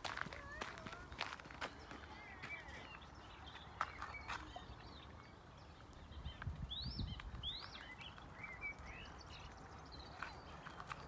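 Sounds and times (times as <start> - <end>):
songbird chirping: 0.1 - 11.0.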